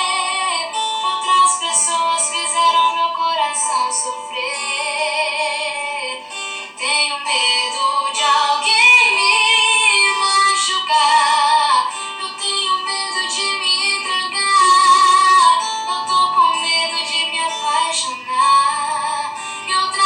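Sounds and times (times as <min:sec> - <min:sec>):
plucked strings backing: 0:00.0 - 0:20.0
woman singing: 0:00.0 - 0:20.0.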